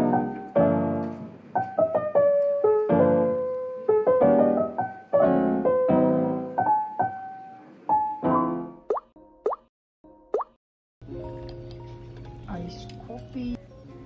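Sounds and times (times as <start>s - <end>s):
keyboard playing light melody: 0.0s - 9.4s, 11.0s - 14.0s.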